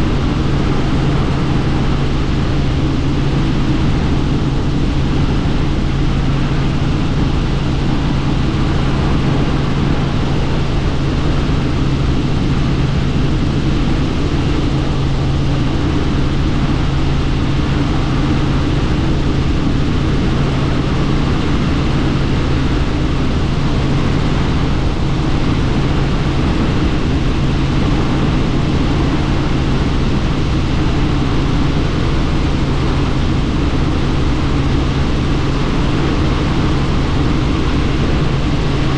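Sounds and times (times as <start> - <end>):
helicopter drone from cabin: 0.0 - 38.9
rushing wind noise: 0.0 - 38.9.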